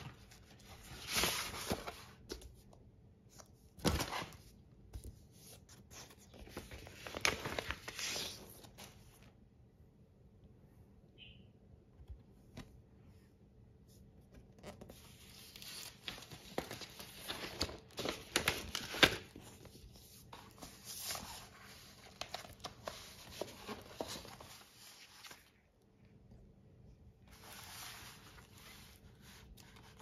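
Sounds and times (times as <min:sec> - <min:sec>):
paper sleeves rustling: 0:00.0 - 0:02.5, 0:03.2 - 0:09.4, 0:12.6 - 0:25.8, 0:27.2 - 0:30.0.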